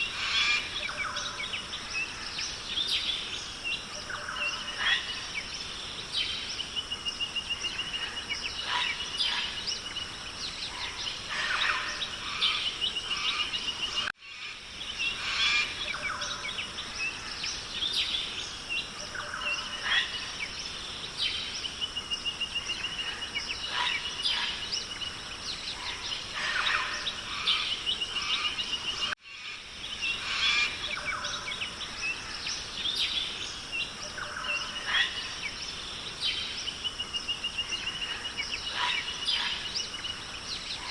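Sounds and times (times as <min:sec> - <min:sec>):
background hiss: 0:00.0 - 0:40.9
birds calling and trilling: 0:00.0 - 0:40.9.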